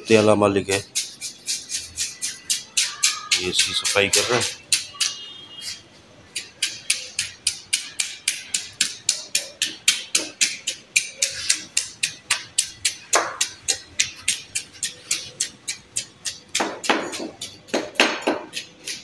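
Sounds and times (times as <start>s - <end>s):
knife scraping fish scales: 0.2s - 17.7s.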